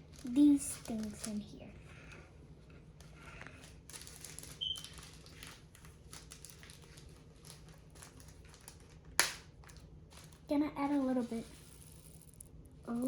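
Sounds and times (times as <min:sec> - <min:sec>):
slime rustling and crackling: 0:00.0 - 0:01.7, 0:03.4 - 0:13.0.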